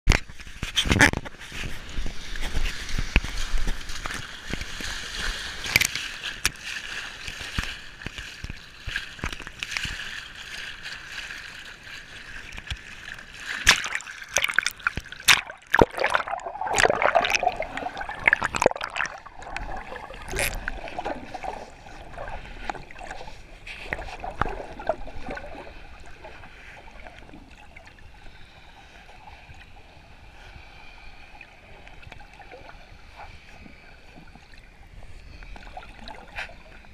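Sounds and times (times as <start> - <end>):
small waves breaking in shallows: 0.5 - 36.9.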